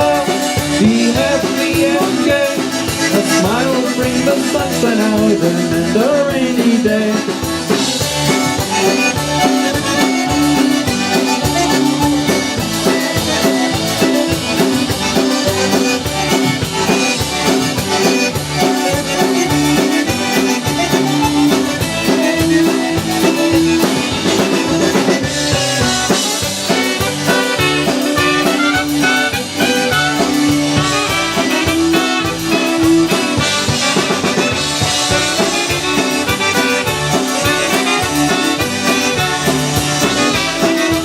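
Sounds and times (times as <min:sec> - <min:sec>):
live dance band playing: 0:00.0 - 0:41.0.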